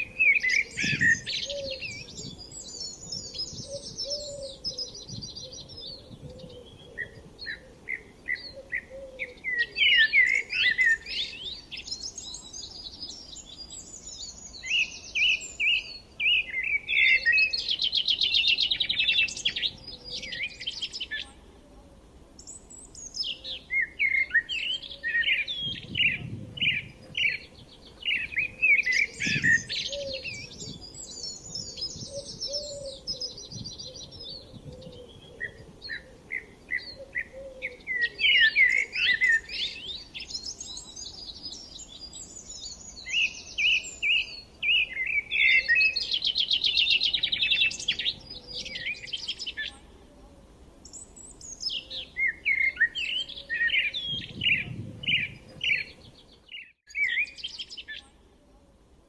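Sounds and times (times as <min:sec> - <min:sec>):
songbirds chirping and singing: 0:00.0 - 0:21.4, 0:22.3 - 0:58.2.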